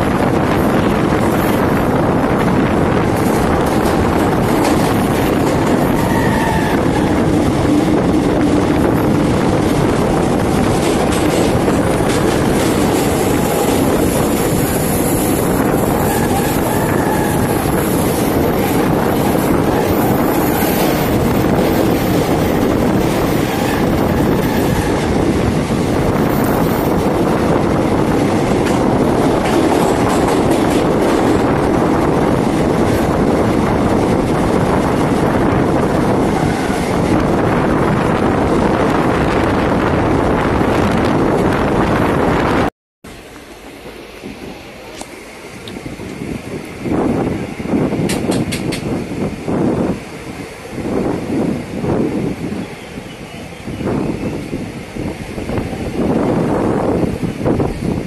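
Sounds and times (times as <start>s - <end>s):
train rumbling through tunnel: 0.0s - 58.0s.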